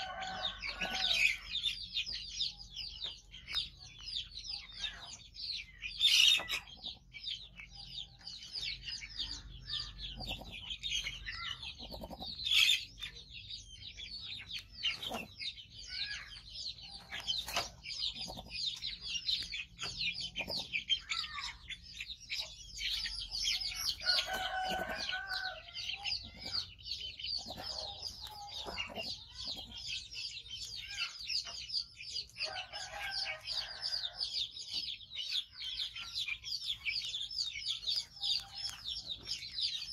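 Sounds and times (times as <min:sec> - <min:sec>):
chickens calling: 0:00.0 - 0:39.9
small birds chirping: 0:00.0 - 0:39.9.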